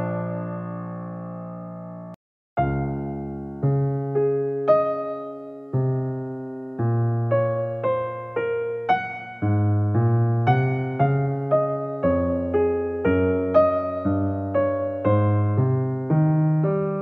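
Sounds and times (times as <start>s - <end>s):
soft keyboard music: 0.0s - 17.0s.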